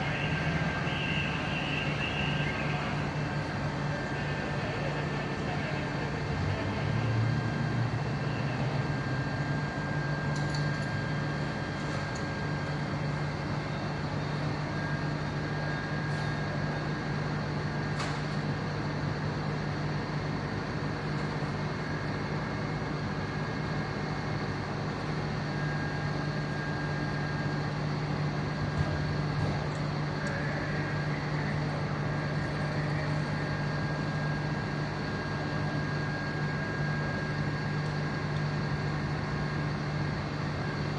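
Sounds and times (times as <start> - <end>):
fire truck engine idling: 0.0 - 40.9.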